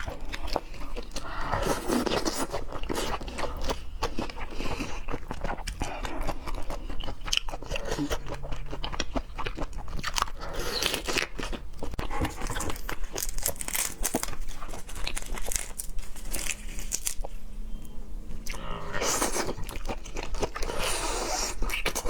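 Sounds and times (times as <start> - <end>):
person chewing and crunching: 0.0 - 17.4, 18.4 - 22.0.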